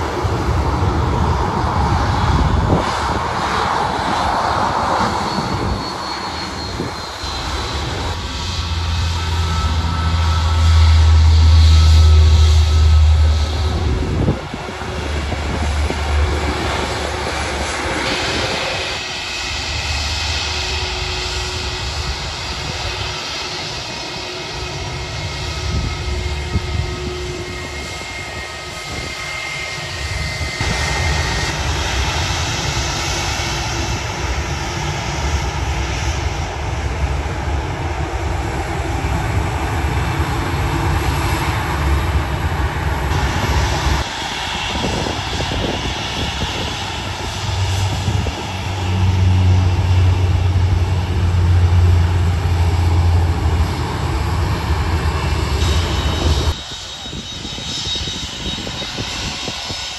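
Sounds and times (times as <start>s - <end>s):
high jet engine whine: 0.0s - 59.9s
jet airliners taxiing: 0.0s - 59.9s
wind buffeting microphone: 0.0s - 59.9s.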